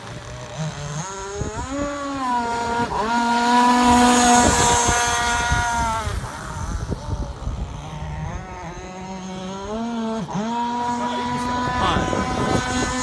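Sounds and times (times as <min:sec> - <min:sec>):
model boat engine buzzing: 0:00.0 - 0:13.0.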